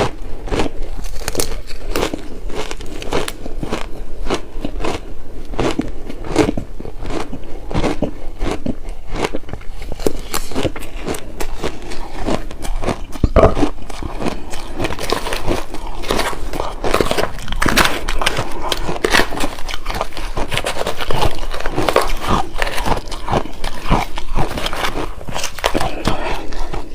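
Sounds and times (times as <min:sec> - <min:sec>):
shaved ice being chewed: 0:00.0 - 0:26.9.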